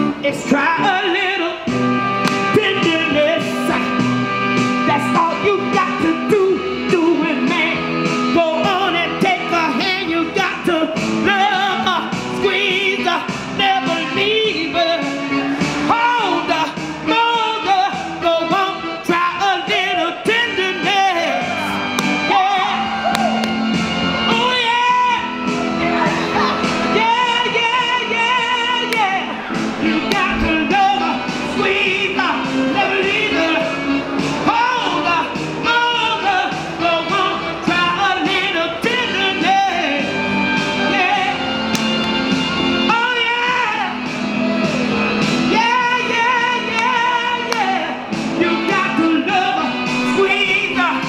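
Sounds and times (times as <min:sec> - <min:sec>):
woman singing through an amplifier: 0:00.0 - 0:01.6, 0:02.4 - 0:04.0, 0:04.8 - 0:23.0, 0:24.3 - 0:40.1, 0:45.5 - 0:51.0.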